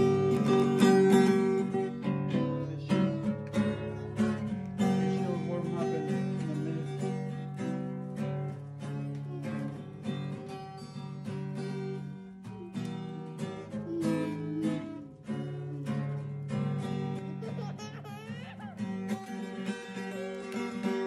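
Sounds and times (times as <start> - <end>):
acoustic guitar: 0.0 - 21.0.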